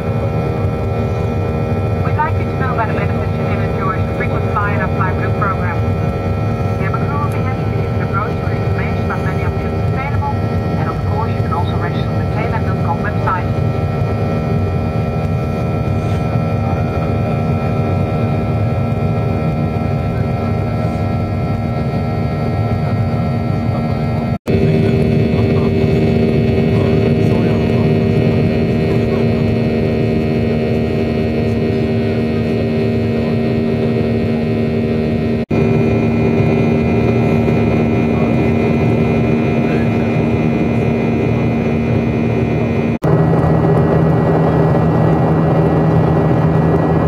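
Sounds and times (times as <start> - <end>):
jet engines droning in cabin: 0.0 - 47.0.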